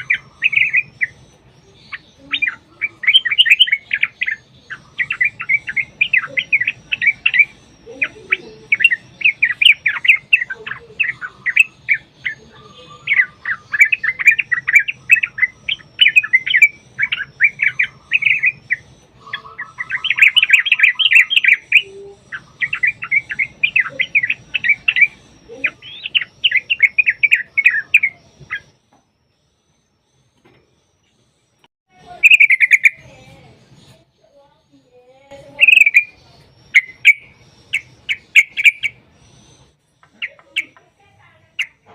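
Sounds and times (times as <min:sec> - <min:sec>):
bird singing rolling chatter: 0:00.0 - 0:41.9.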